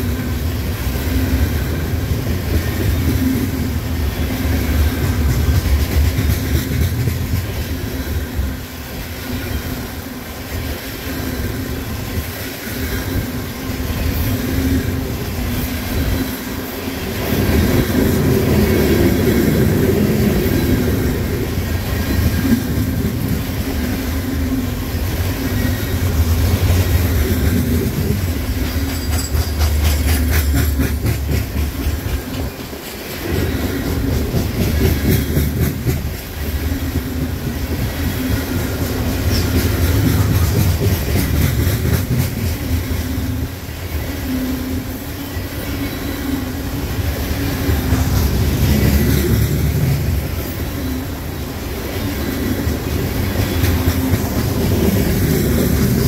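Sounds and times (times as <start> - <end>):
clickety-clack of wheels on track: 0.0 - 56.0
train wheels rumbling on rails: 0.0 - 56.0.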